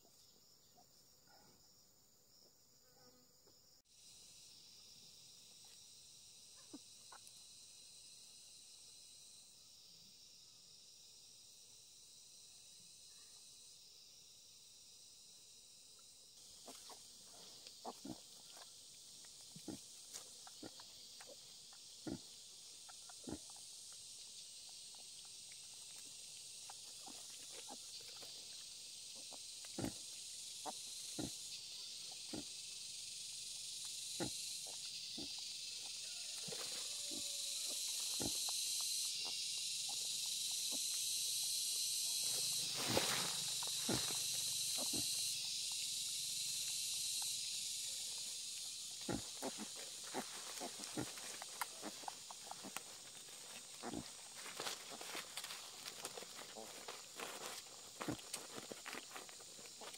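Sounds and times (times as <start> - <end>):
insect hiss: 0.0 - 59.9.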